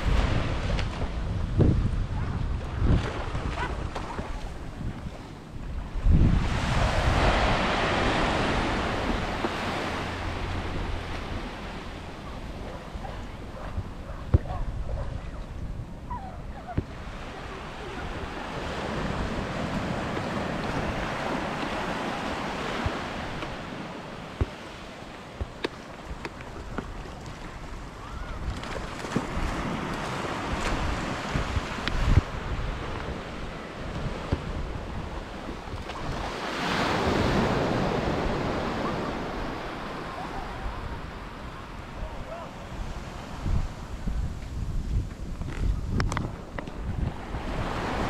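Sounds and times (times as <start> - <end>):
sea waves surging on beach: 0.0 - 1.5, 2.8 - 13.6, 16.8 - 44.3, 46.4 - 48.0
wind on microphone: 0.0 - 48.0.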